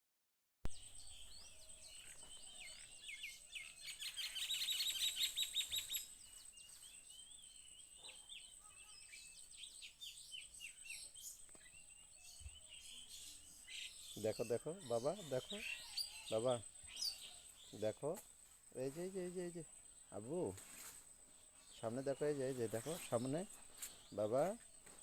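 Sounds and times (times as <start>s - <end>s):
small birds chirping: 0.7s - 25.0s.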